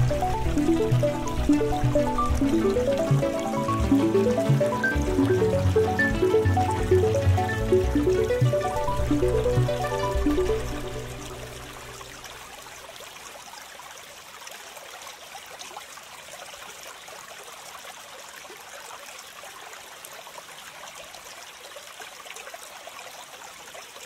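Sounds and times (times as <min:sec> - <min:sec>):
small stream trickling: 0:00.0 - 0:24.0.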